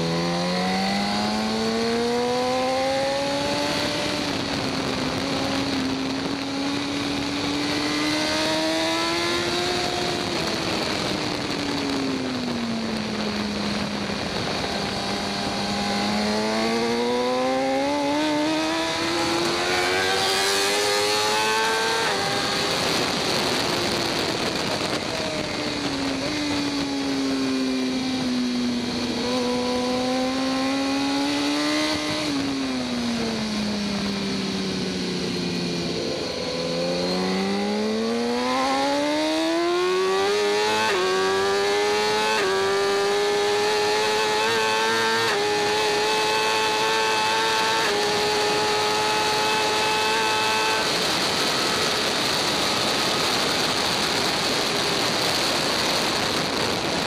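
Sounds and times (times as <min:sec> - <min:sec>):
motorcycle engine at racing speed: 0:00.0 - 0:57.0
wind rush: 0:00.0 - 0:57.0.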